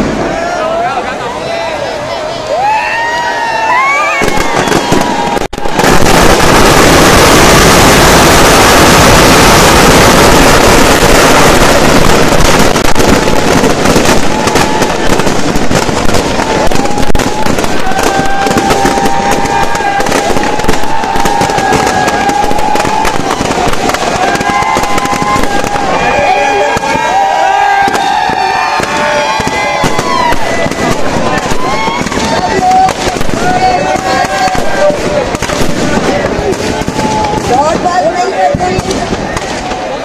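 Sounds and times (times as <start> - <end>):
firecrackers crackling and banging: 2.6 - 40.0.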